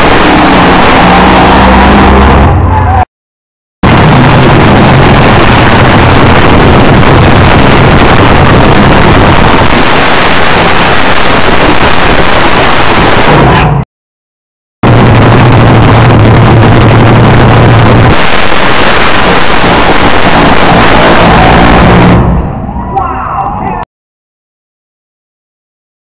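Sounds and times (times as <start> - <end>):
drag car engine burnout: 0.0 - 3.1, 3.8 - 13.8, 14.8 - 22.8.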